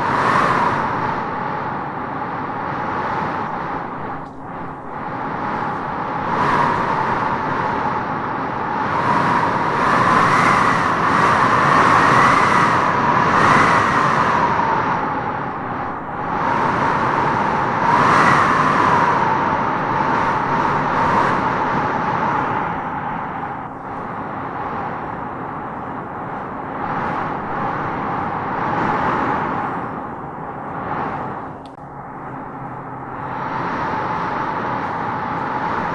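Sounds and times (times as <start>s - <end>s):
wind gusts howling: 0.0s - 35.9s.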